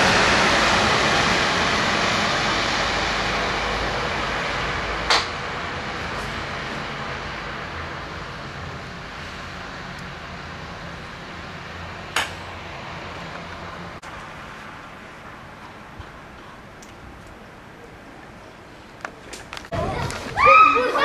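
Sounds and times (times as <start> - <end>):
traffic hiss on slushy road: 0.0 - 17.6.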